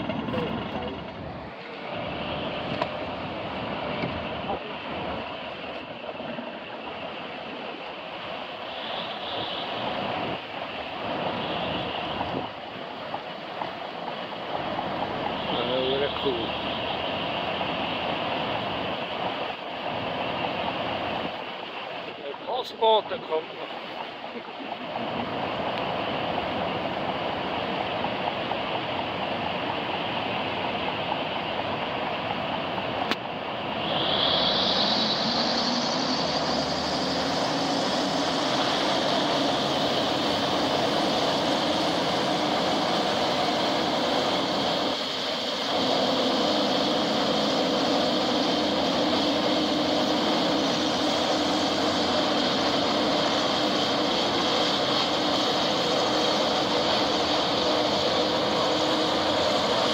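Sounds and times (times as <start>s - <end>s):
hovercraft fans rushing drone: 0.0s - 59.9s.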